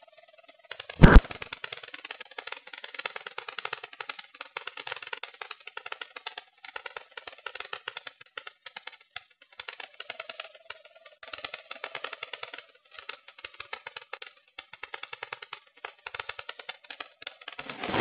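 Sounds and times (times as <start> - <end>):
rapid crackling and rattling: 0.6 - 18.0.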